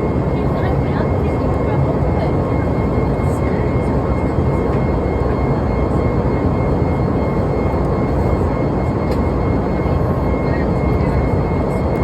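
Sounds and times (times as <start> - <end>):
jet engine roar in cabin: 0.0 - 12.0
thin steady whine: 0.0 - 12.0.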